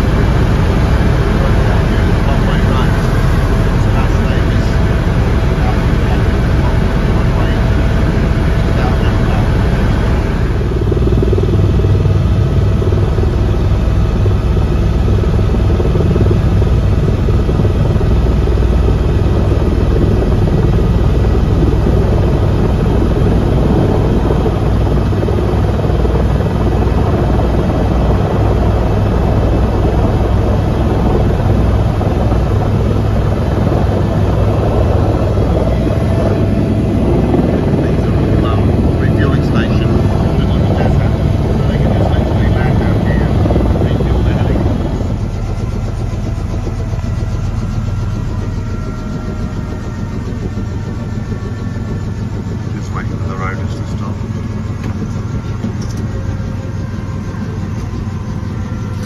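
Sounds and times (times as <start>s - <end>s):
helicopter drone inside cabin: 0.0s - 59.0s.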